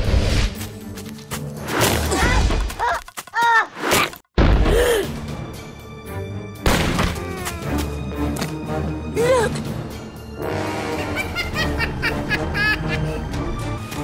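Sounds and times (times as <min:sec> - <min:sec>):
cartoon background music: 0:01.4 - 0:14.0.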